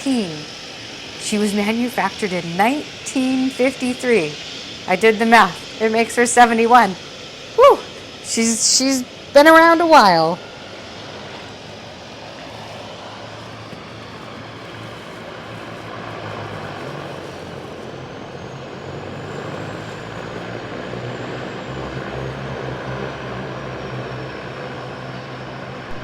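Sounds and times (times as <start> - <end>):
faint high whine: 0.0 - 26.0
floatplane engine droning: 0.0 - 26.0.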